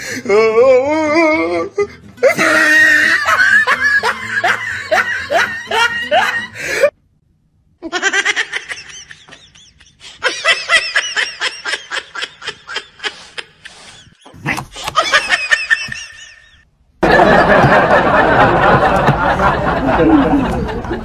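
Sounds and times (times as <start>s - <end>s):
person laughing: 2.2s - 6.9s, 7.8s - 21.0s.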